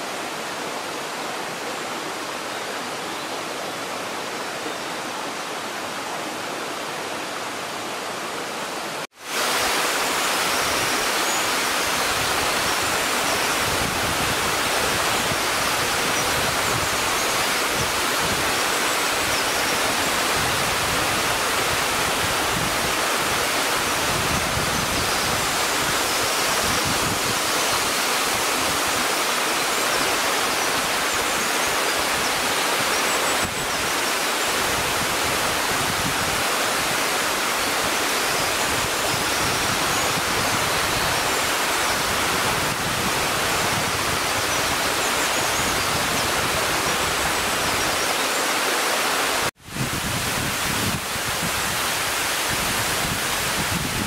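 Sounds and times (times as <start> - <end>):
waterfall rushing roar: 0.0 - 54.0.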